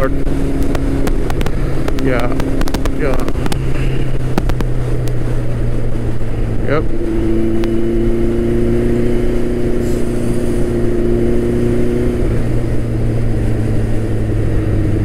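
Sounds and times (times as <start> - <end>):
motorcycle engine droning: 0.0 - 15.0
wind noise: 0.0 - 15.0.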